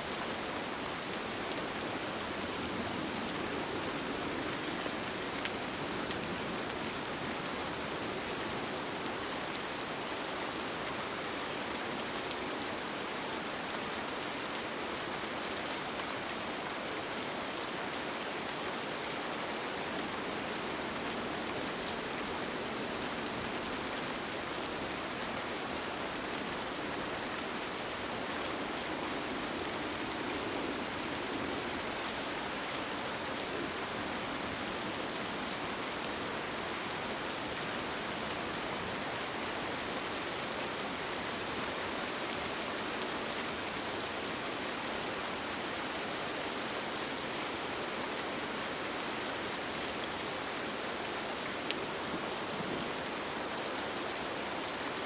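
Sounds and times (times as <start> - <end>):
rain pattering on a tent: 0.0 - 55.0.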